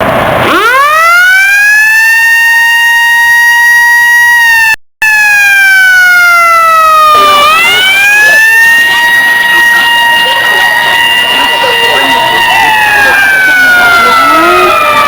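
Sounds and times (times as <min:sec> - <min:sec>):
alarm siren wailing: 0:00.4 - 0:15.0.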